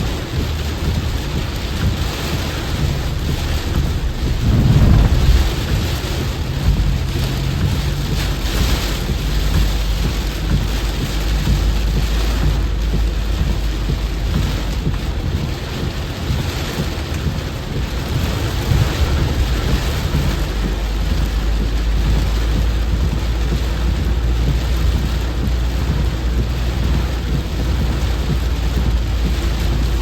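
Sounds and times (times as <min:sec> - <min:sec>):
heavy rain pouring: 0:00.0 - 0:30.0
low rumble: 0:00.0 - 0:30.0.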